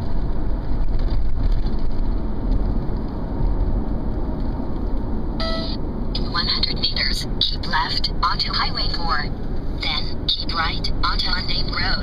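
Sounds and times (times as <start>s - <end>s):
tyres rumbling on asphalt: 0.0s - 12.0s.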